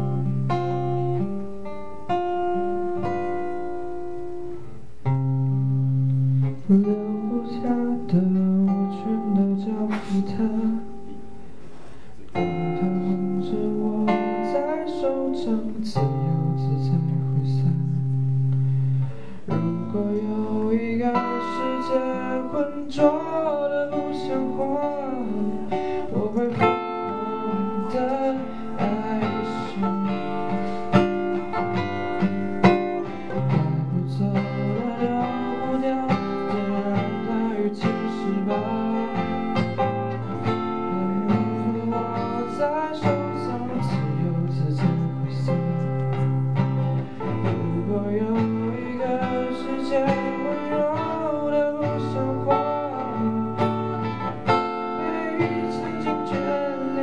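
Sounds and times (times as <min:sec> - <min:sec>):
acoustic guitar playing: 0:00.0 - 0:57.0
man singing: 0:06.5 - 0:11.4, 0:12.2 - 0:18.4, 0:19.4 - 0:57.0.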